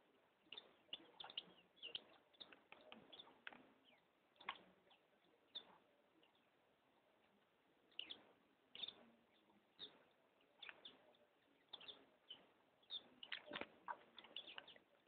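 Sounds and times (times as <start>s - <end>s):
bird chirping faintly: 0.0s - 15.0s.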